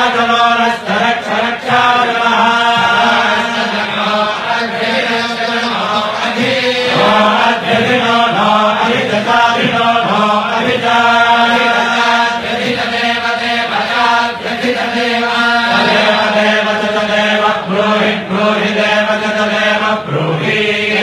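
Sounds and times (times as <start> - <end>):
person chanting verses: 0.0 - 21.0.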